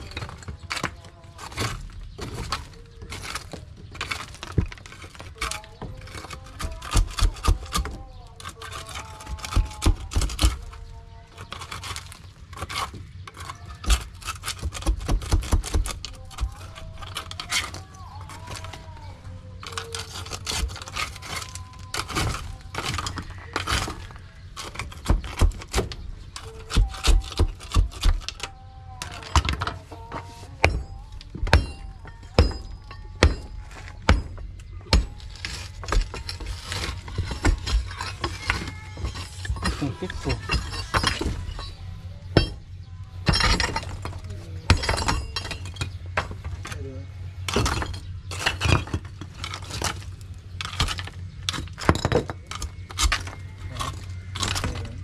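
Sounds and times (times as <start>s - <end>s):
rubble clattering: 0.0s - 55.0s.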